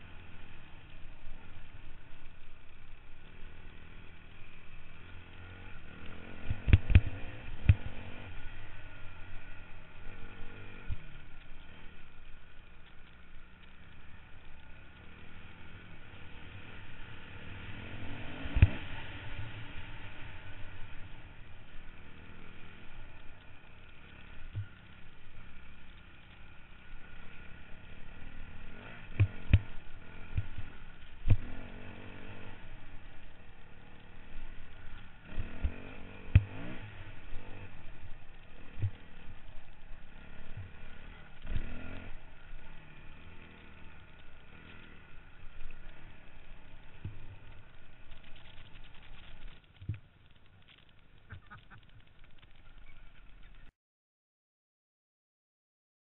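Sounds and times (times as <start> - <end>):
motorcycle engines revving: 0.0 - 53.7.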